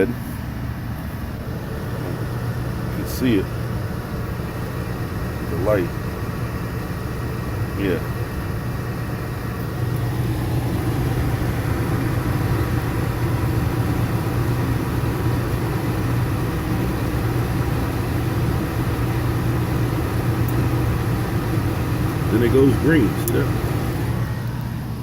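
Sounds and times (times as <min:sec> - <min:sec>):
furnace humming: 0:00.0 - 0:25.0.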